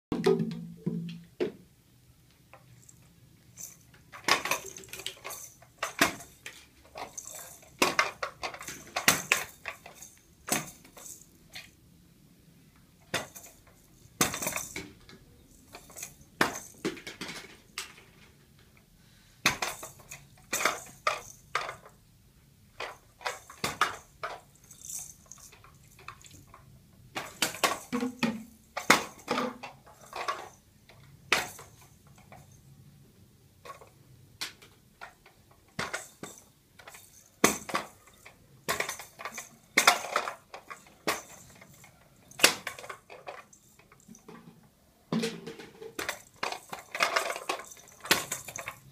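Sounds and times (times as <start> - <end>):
plastic toys clattering: 2.5 - 11.8, 12.8 - 22.1, 22.7 - 32.8, 33.5 - 48.9.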